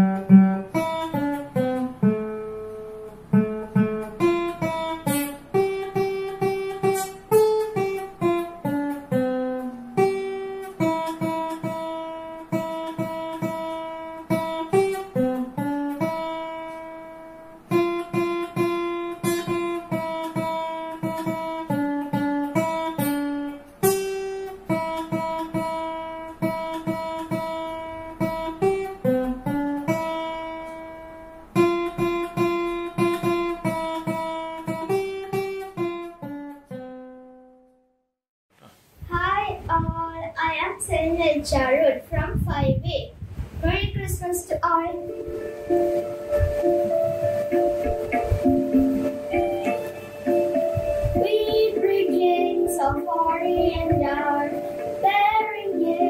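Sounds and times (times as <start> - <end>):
acoustic guitar melody: 0.0 - 37.8, 39.2 - 42.5, 43.6 - 56.0.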